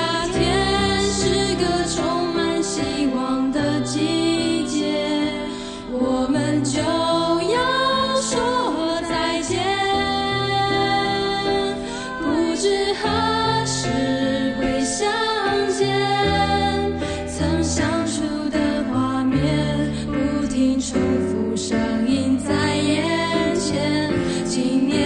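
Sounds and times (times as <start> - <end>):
slow song with singing: 0.0 - 25.0.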